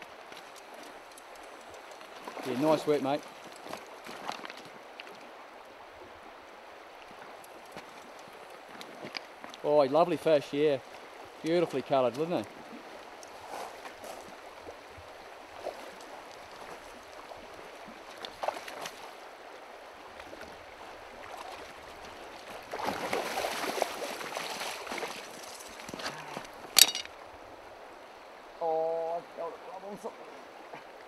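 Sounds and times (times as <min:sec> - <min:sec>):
stony river running: 0:00.0 - 0:31.0.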